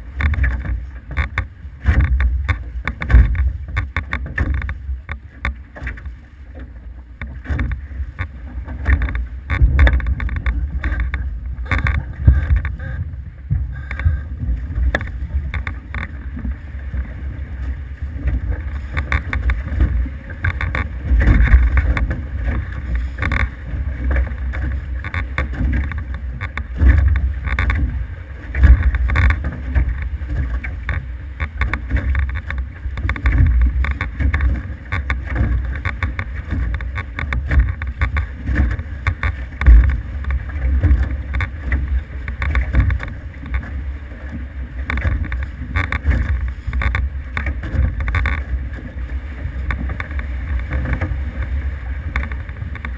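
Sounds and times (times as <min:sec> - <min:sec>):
water rushing past hulls: 0:00.0 - 0:52.9
wind buffeting microphone: 0:07.4 - 0:52.9.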